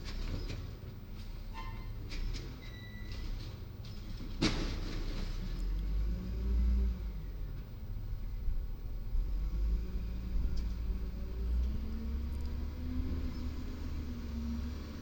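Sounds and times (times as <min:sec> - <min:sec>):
garbage truck engine rumbling: 0:00.0 - 0:15.0.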